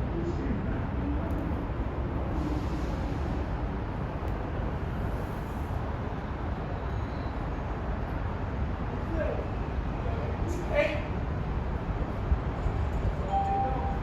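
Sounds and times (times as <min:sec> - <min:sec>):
low rumble of moving vehicles: 0:00.0 - 0:14.0.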